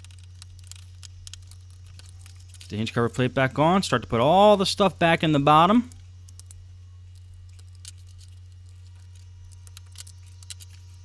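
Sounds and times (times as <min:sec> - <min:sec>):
low mains hum: 0:00.0 - 0:11.0.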